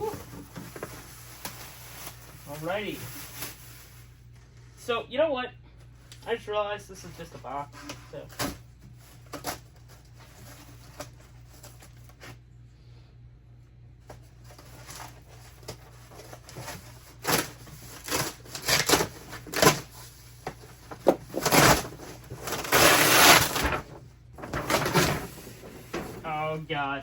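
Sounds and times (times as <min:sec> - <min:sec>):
cardboard scraping and rustling: 0:00.0 - 0:04.1, 0:07.1 - 0:12.4, 0:14.1 - 0:26.6.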